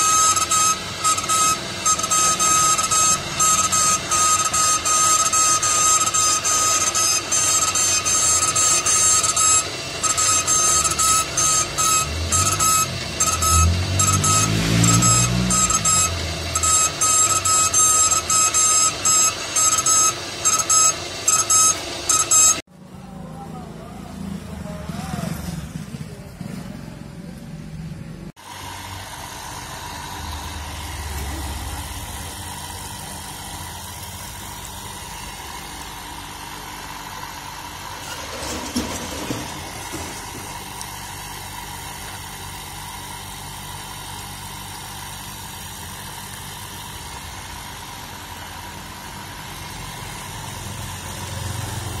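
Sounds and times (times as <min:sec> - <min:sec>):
water pump motor humming: 0:00.0 - 0:22.6, 0:28.4 - 0:52.0.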